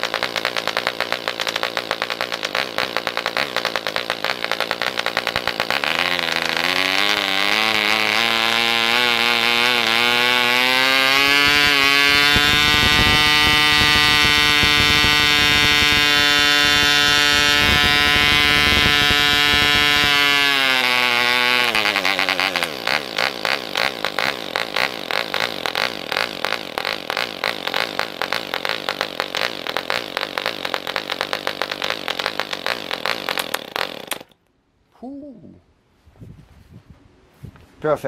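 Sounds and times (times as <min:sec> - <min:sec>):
model diesel engine running: 0:00.0 - 0:34.4.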